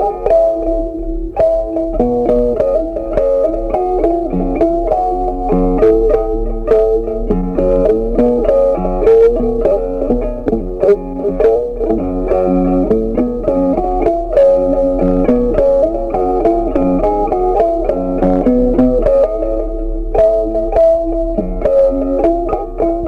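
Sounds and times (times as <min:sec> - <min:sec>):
bass line: 0:00.0 - 0:23.0
plucked guitar melody: 0:00.0 - 0:23.0.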